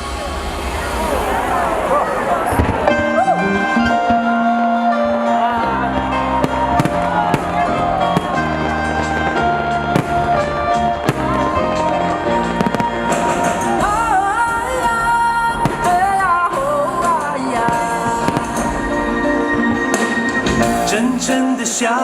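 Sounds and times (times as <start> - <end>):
fireworks banging: 0.0 - 4.3, 5.2 - 21.5
loud music: 0.0 - 22.0
wavering sung melody: 2.9 - 22.0.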